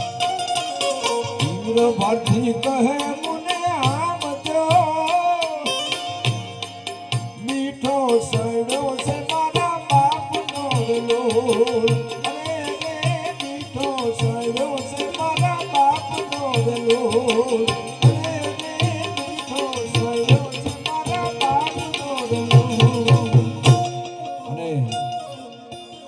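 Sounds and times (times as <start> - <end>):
tabla playing: 0.0 - 26.0.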